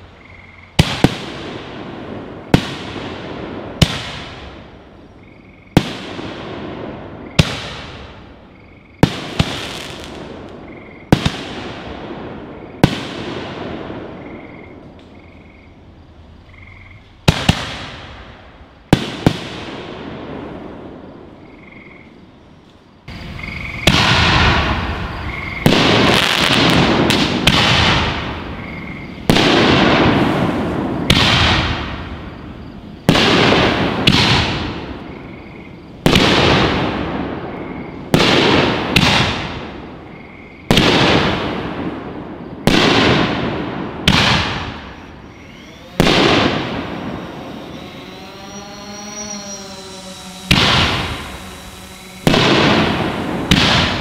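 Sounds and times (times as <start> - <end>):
fireworks bursting with crackle: 0.0 - 5.0, 5.7 - 15.2, 17.1 - 21.2, 23.1 - 54.0.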